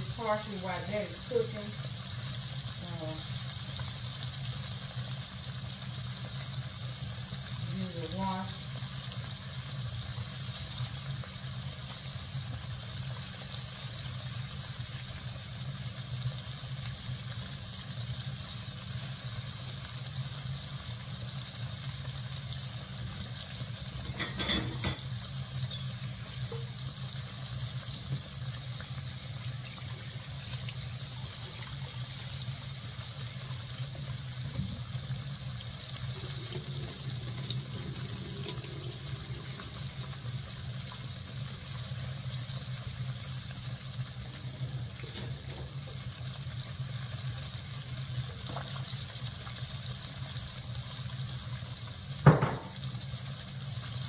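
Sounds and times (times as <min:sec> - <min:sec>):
oil sizzling while deep-frying: 0:00.0 - 0:54.0.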